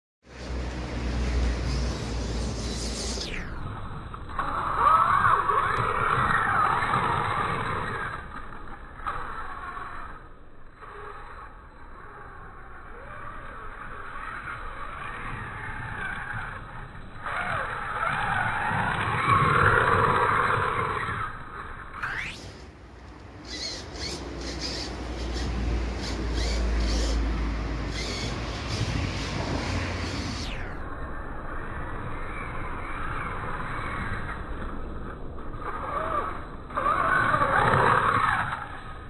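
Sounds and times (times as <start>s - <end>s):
slowed electric motor whining: 0.3s - 39.0s.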